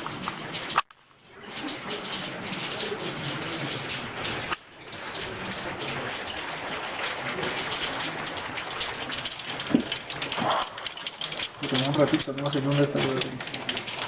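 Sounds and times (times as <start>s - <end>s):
heavy rain pelting down: 0.0s - 14.0s.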